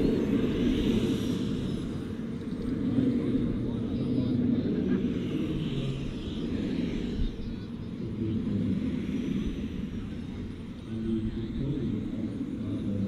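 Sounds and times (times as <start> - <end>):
jet turbine running low: 0.0 - 13.0.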